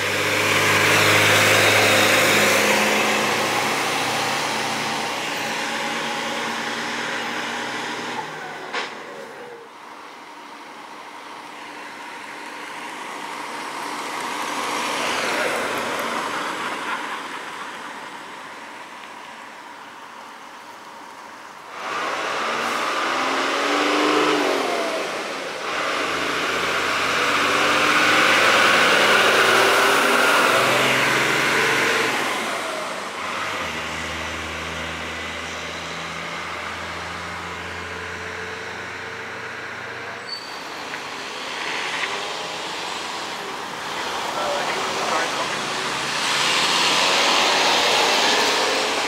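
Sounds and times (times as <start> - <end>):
emergency vehicles driving past: 0.0 - 49.0
truck engine drone: 0.0 - 49.0.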